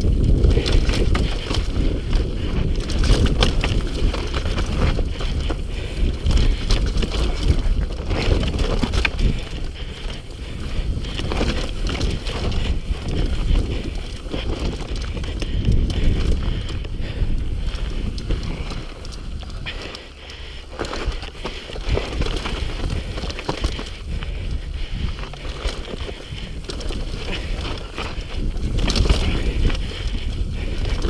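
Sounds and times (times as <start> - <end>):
bike rattling over bumps: 0.0 - 31.0
wind on microphone: 0.0 - 31.0.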